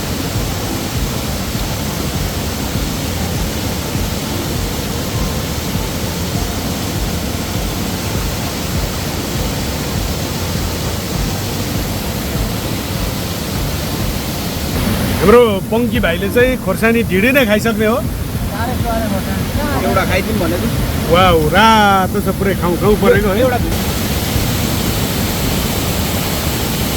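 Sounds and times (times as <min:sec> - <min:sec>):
river rushing: 0:00.0 - 0:26.9.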